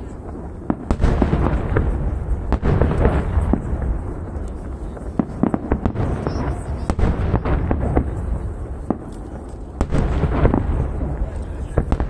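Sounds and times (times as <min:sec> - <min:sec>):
fireworks booming and banging: 0:00.0 - 0:12.0.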